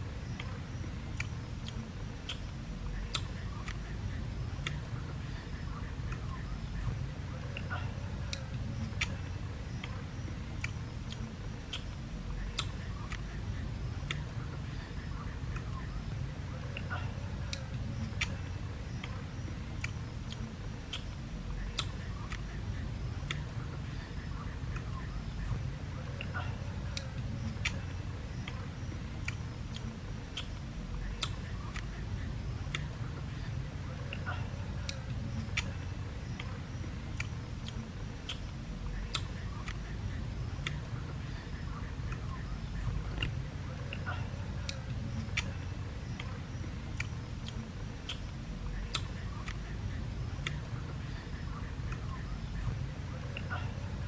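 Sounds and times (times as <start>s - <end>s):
low steady rumble: 0.0s - 54.0s
person chewing and lip smacking: 1.1s - 5.1s, 6.0s - 41.3s, 41.9s - 51.0s.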